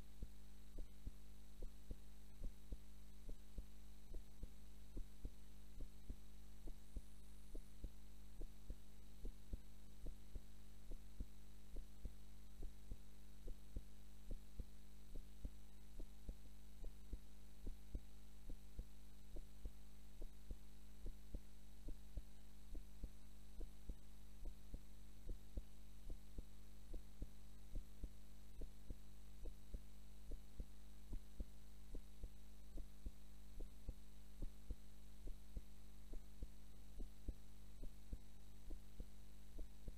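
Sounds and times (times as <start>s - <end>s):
constant low hum: 0.0s - 39.9s
heartbeat thumps: 0.0s - 39.9s.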